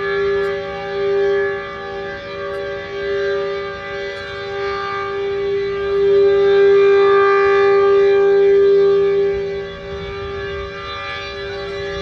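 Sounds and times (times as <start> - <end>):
two-tone civil defense siren: 0.0 - 12.0.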